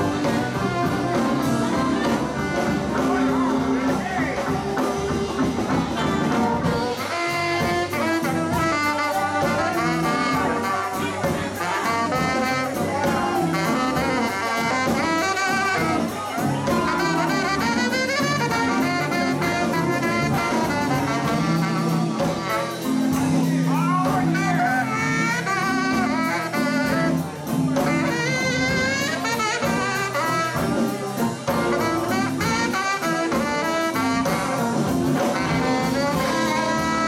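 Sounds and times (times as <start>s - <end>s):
live band playing: 0.0s - 37.0s
saxophone solo: 0.0s - 37.0s.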